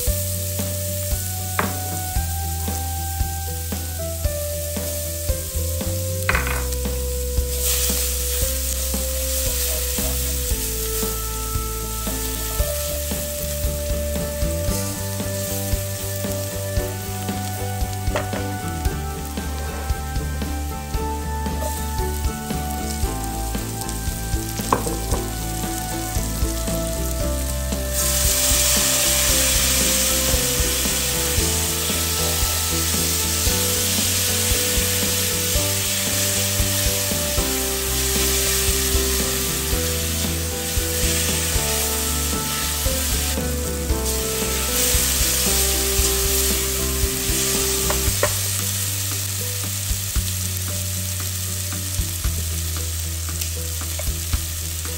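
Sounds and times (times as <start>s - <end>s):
onion frying in oil: 0.0s - 54.9s.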